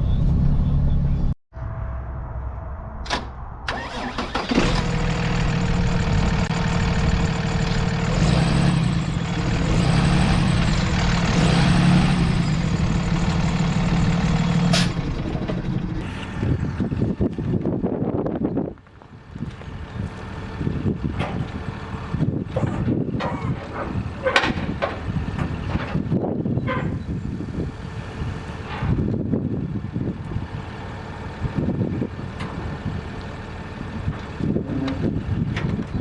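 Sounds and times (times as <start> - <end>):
diesel engine starting and idling: 3.1 - 36.0.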